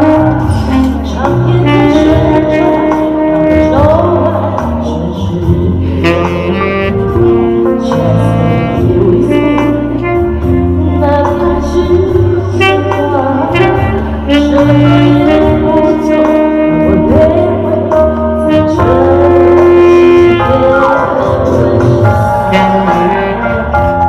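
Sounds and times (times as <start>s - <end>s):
live band playing slow jazz: 0.0s - 24.0s
saxophone long held notes: 0.0s - 24.0s.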